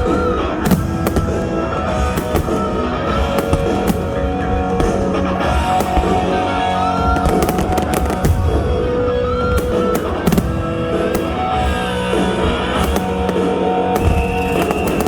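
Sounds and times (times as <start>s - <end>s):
fireworks bangs: 0.0s - 15.0s
rock music with guitar and drums: 0.0s - 15.0s.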